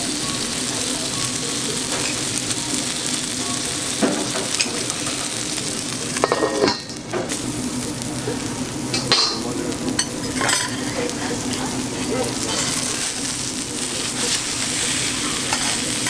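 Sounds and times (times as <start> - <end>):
meat and cabbage sizzling on griddle: 0.0 - 16.0.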